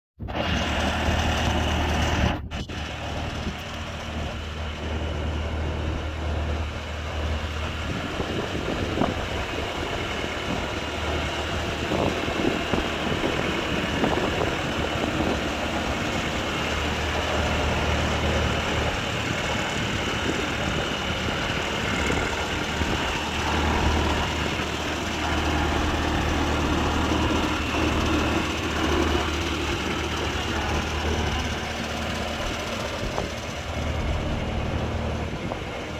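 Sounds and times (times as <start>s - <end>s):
diesel engine humming: 0.3s - 35.9s.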